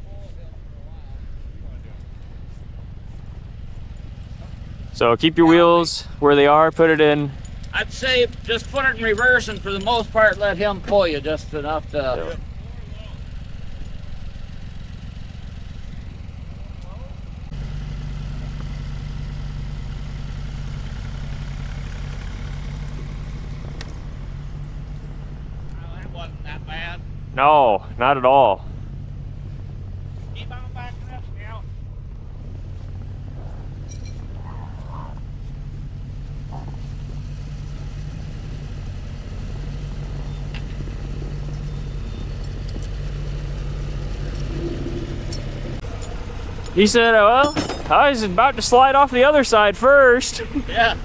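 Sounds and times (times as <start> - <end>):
truck engine running: 0.0 - 51.0.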